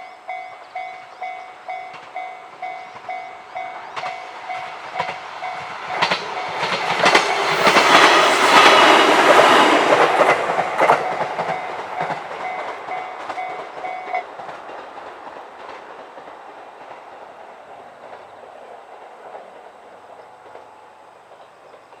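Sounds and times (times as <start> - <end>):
train wheels clattering on rail joints: 0.8 - 22.0.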